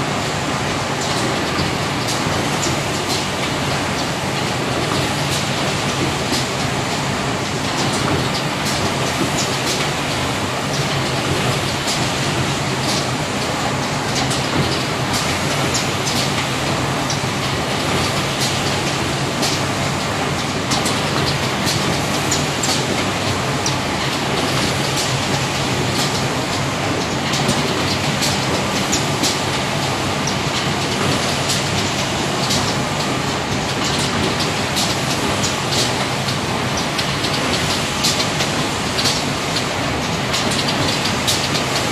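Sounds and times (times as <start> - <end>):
sharp mechanical clicks and clacks: 1.0 - 41.9.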